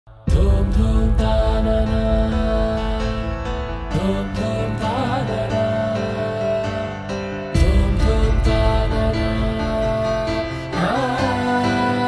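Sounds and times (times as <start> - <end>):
held notes over deep bass: 0.3 - 7.0, 7.6 - 12.0.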